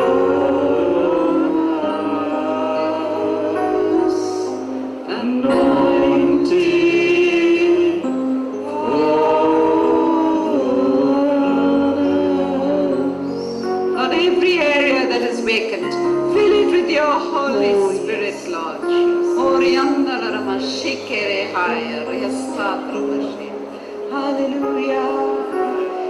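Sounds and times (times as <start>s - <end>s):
choir singing worship music: 0.0s - 26.0s.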